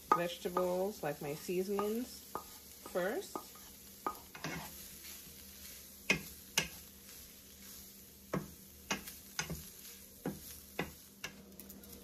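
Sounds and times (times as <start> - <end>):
wooden spatula scraping frying pan: 1.6 - 11.4.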